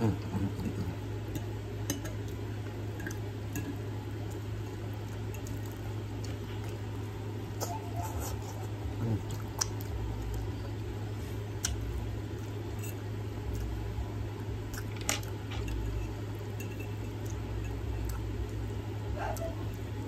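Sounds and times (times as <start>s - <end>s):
steady low hum: 0.0s - 20.0s
wet chewing and mouth sounds: 0.5s - 19.9s.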